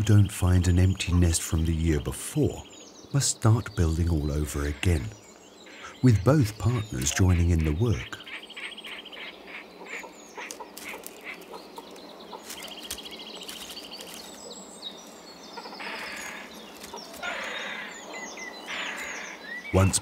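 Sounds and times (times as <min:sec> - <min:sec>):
herons calling harshly: 0:00.0 - 0:20.0
songbirds chirping and trilling: 0:00.0 - 0:20.0.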